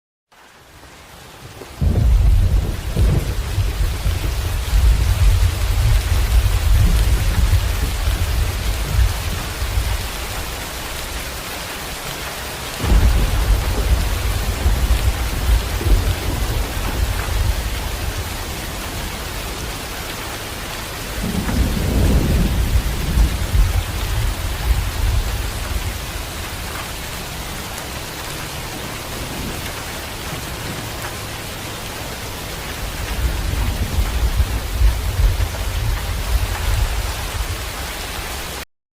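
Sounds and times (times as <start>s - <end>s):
heavy rain: 0.3s - 38.7s
thunder rumbling: 1.8s - 10.9s, 12.8s - 29.7s, 32.6s - 38.3s.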